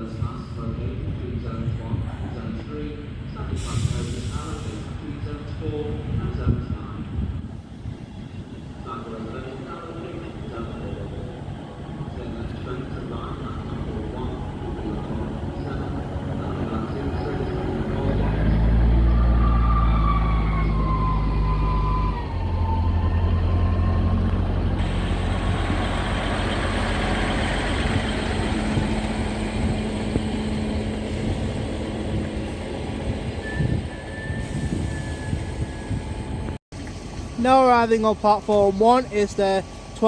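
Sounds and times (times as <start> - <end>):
diesel train engines running: 0.0 - 40.0.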